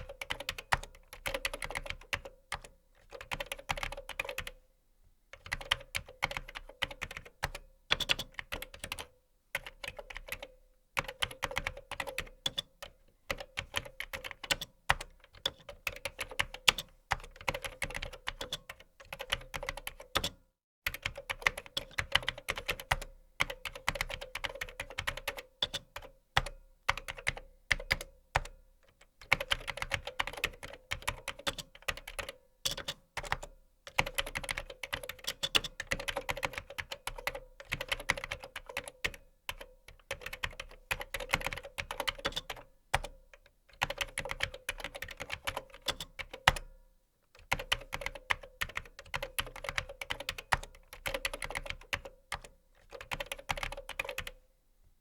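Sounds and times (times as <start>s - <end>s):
typing on keyboard: 0.0s - 4.6s, 5.4s - 46.8s, 47.4s - 54.4s.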